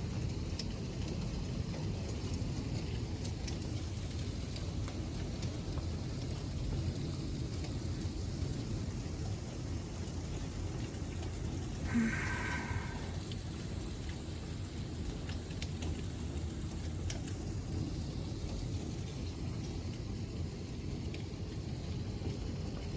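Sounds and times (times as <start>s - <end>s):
heavy rain falling: 0.1s - 19.9s.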